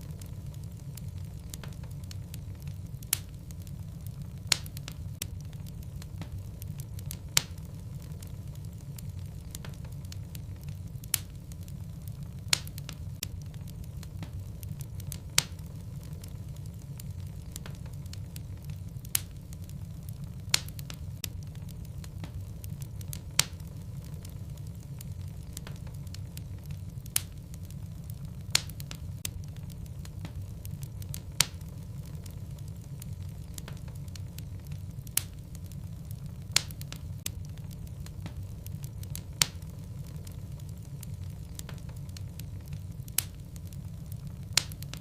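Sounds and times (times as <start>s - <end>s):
burning wood crackling and popping: 0.0s - 45.0s
low fire rumble: 0.0s - 45.0s.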